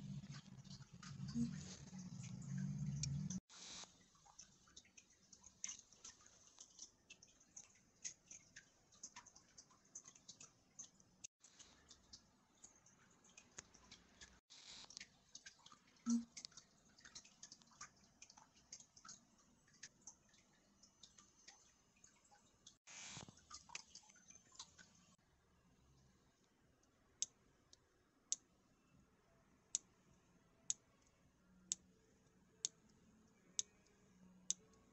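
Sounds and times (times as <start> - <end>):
faint small clicks and ticks: 0.1 - 25.2, 30.7 - 34.9.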